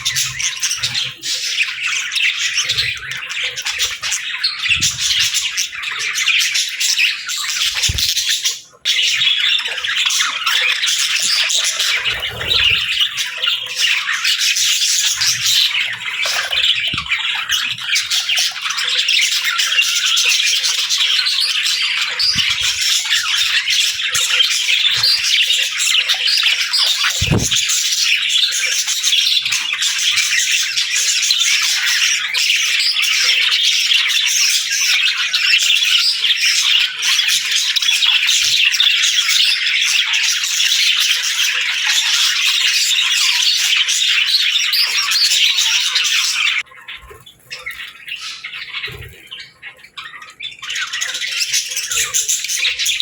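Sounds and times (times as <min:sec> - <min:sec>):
parakeets chirping and squawking: 0:00.0 - 0:53.0.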